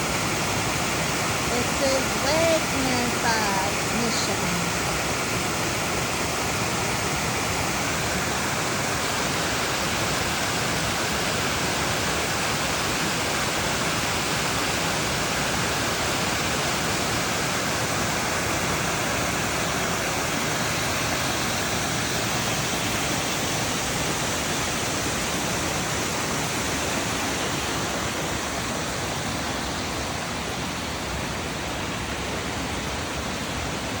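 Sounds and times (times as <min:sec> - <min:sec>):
waterfall pouring and splashing: 0:00.0 - 0:34.0.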